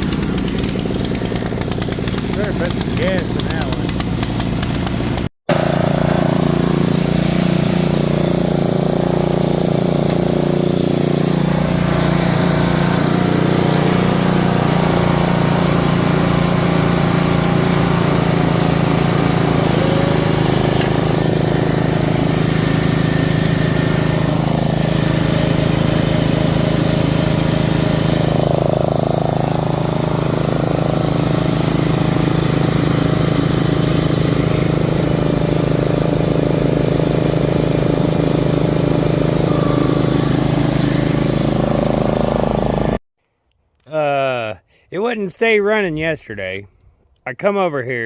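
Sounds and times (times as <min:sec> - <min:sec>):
small gasoline engine running: 0:00.0 - 0:43.0.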